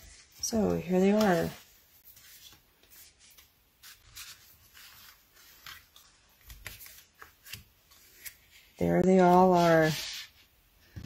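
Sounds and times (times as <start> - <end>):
cards rustling: 0.1 - 9.9.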